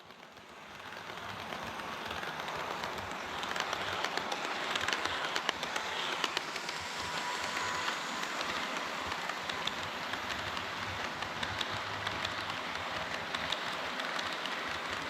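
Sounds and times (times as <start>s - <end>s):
model train rolling hiss: 0.0s - 15.0s
wheels clicking over rail joints: 0.0s - 15.0s.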